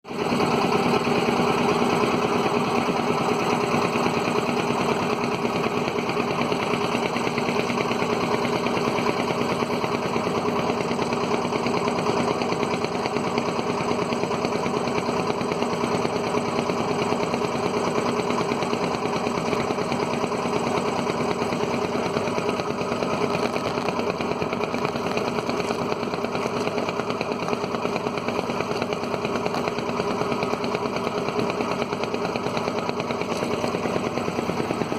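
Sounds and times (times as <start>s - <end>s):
boat engine running steadily: 0.1s - 34.9s.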